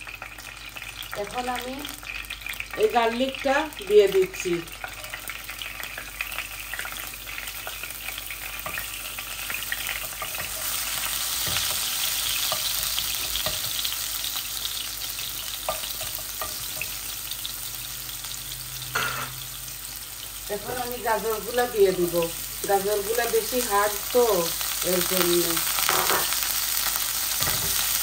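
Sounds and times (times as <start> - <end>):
garlic sizzling in oil: 0.0 - 28.0.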